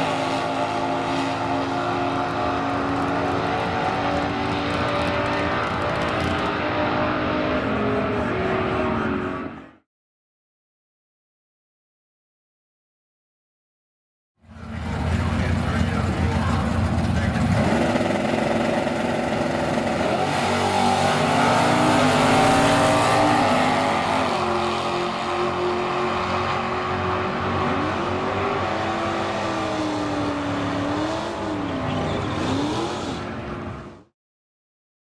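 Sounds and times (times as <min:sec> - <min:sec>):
racing car engines at full throttle: 0:00.0 - 0:09.8, 0:14.4 - 0:34.1.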